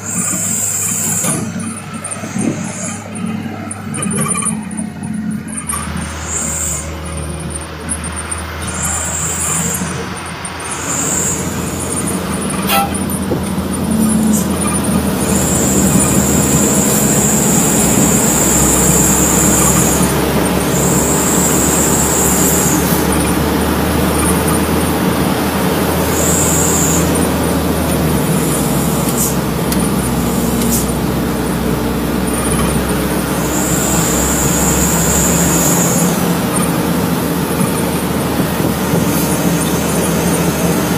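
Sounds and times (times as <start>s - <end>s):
road and tyre noise: 0.0s - 40.9s
truck engine hum: 0.0s - 40.9s.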